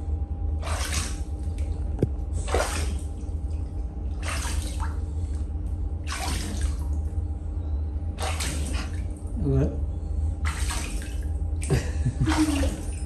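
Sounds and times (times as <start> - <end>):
steady low rumble: 0.0 - 13.0
water swishing and splashing: 0.5 - 7.4, 8.0 - 9.4, 10.3 - 13.0.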